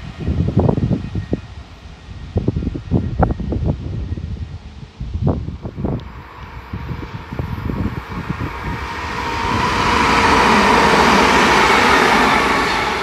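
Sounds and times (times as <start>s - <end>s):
train passing at speed: 0.0s - 13.0s
wind buffeting microphone: 0.0s - 13.0s.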